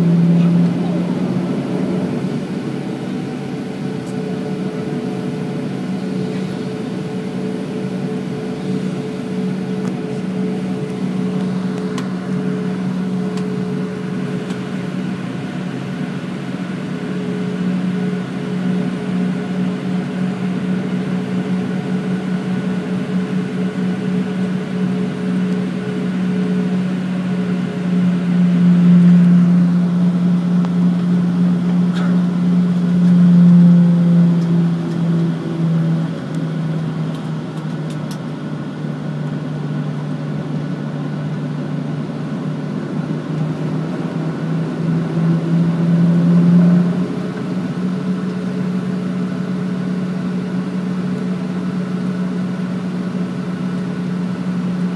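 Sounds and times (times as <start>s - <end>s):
airplane cabin engine hum: 0.0s - 54.9s.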